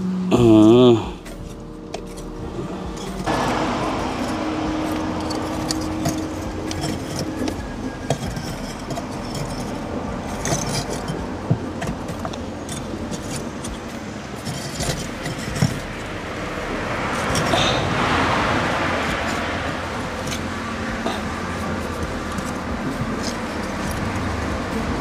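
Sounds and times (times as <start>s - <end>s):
fire crackling: 0.0s - 25.0s
charcoal clinking on metal rack: 0.4s - 25.0s
fire rushing: 1.6s - 25.0s.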